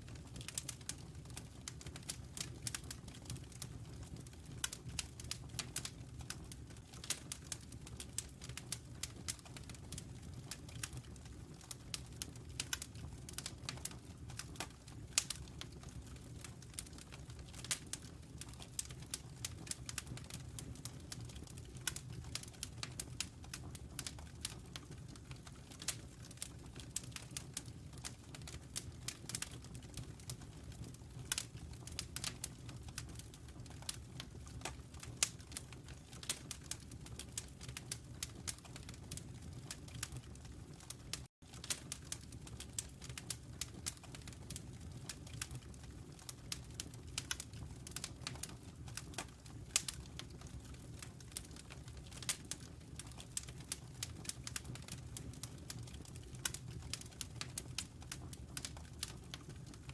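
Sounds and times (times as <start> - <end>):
burning logs crackling: 0.0 - 59.9
low rumble of fire: 0.0 - 59.9.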